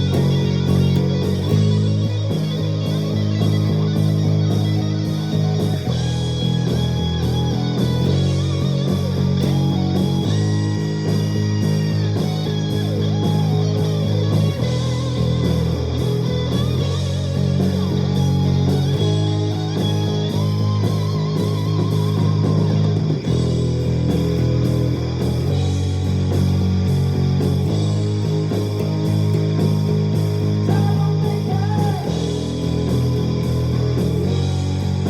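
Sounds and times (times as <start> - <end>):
electric bass low notes: 0.0 - 35.0
guitar melodic lines: 0.0 - 35.0.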